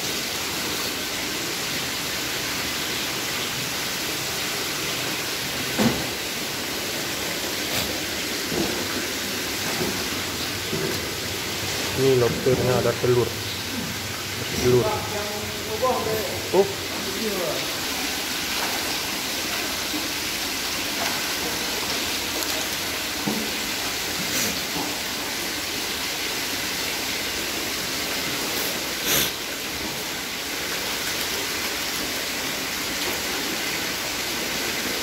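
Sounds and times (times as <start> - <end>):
water jetting and splashing: 0.0 - 35.0.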